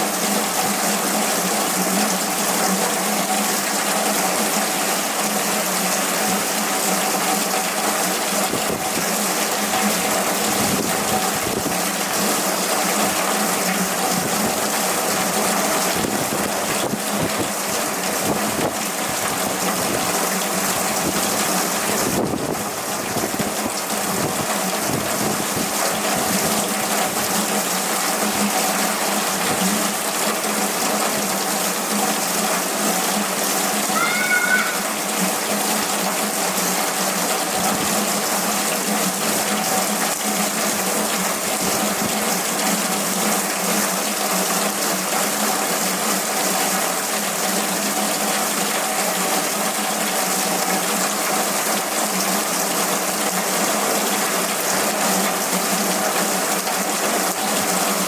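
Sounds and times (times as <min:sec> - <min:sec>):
heavy rain pouring: 0:00.0 - 0:58.0
wind: 0:00.0 - 0:58.0.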